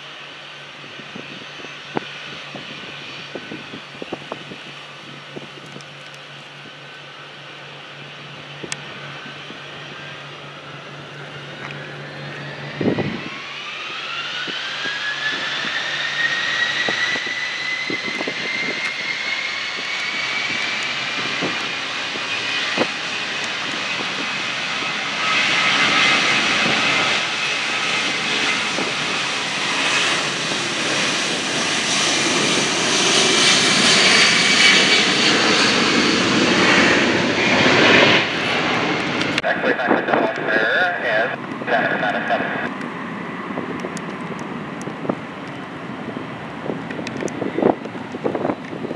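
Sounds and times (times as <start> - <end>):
jet engines spooling up: 0.0 - 48.9.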